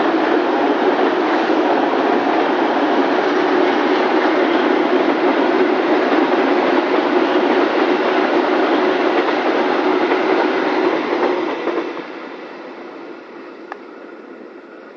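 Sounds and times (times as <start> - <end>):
steel wheels rolling on rails: 0.0 - 14.9.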